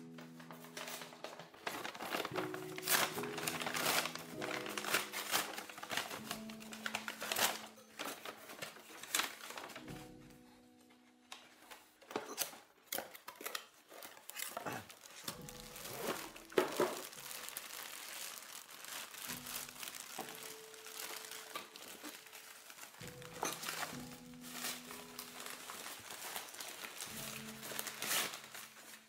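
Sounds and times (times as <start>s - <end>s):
plastic bag crinkling: 0.0s - 10.4s, 11.4s - 29.0s.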